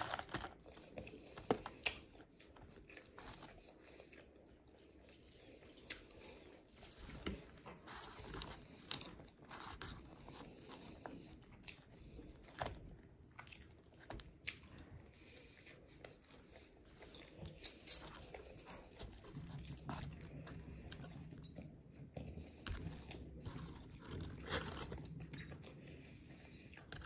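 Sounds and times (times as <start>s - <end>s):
person chewing burger: 0.0s - 27.0s.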